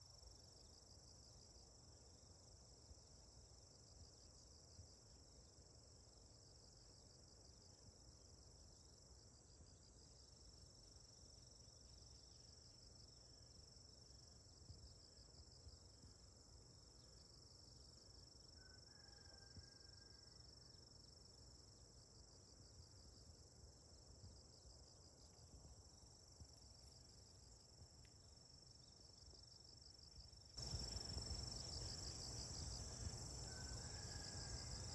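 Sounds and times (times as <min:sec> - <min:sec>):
faint insect chorus trilling: 0:00.0 - 0:34.9.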